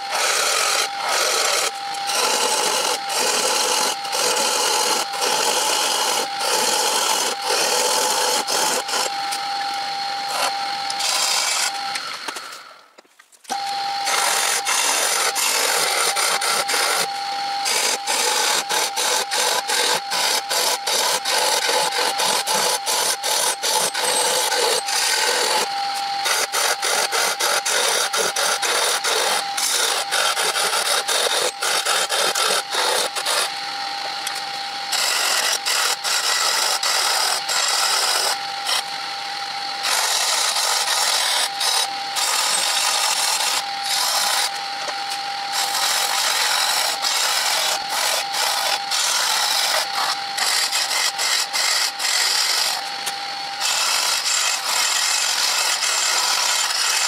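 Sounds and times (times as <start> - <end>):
tool scraping wood on lathe: 0.0 - 12.6, 13.5 - 38.9, 39.8 - 52.9, 53.6 - 57.0
lathe whine: 0.0 - 57.0.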